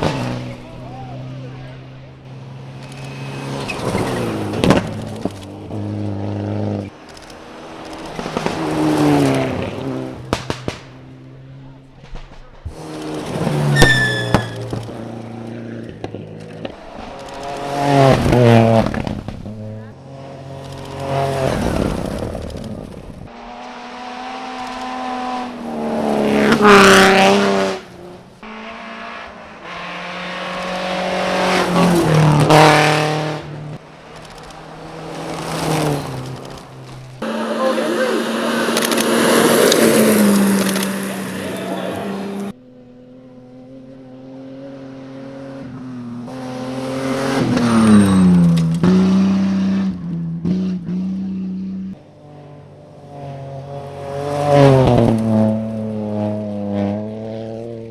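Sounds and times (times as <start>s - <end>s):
rally car approaching: 0.0s - 57.9s
rally car engine at full throttle: 0.0s - 57.9s.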